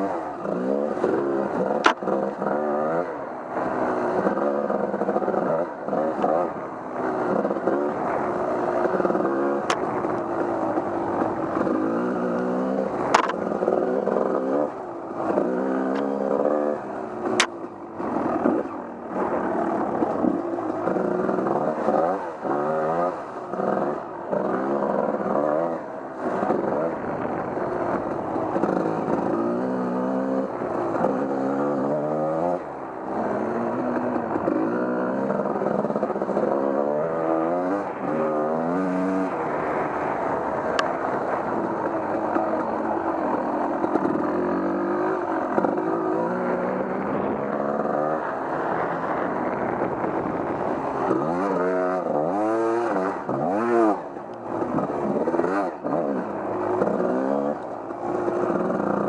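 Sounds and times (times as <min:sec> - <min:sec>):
off-road vehicle engine revving: 0:00.0 - 0:48.9, 0:49.7 - 0:59.0.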